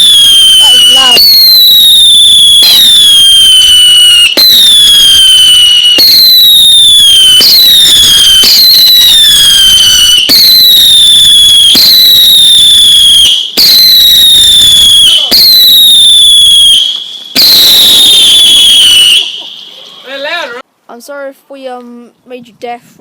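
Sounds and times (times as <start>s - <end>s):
whistling fireworks: 0.0s - 20.6s.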